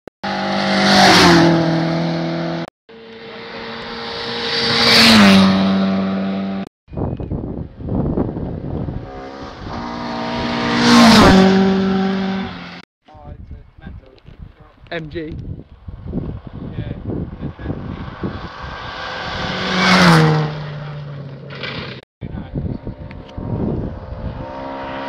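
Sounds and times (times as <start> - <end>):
rally cars passing at full speed: 0.2 - 6.7, 7.6 - 12.8, 15.7 - 25.0.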